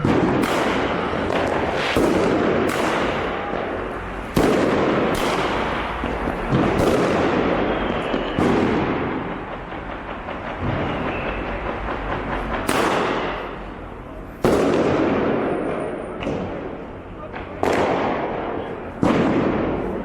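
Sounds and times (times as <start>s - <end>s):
firecracker bangs: 0.0s - 20.0s
fireworks crackling and rumbling: 0.0s - 20.0s.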